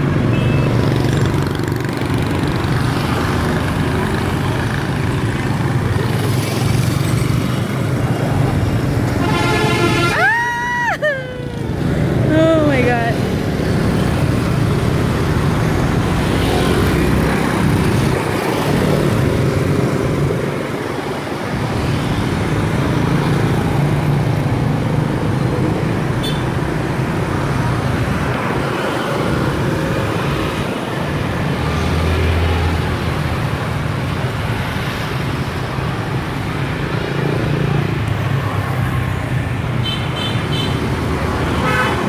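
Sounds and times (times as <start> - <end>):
motorbike and scooter engines: 0.0 - 42.0
road noise: 0.0 - 42.0.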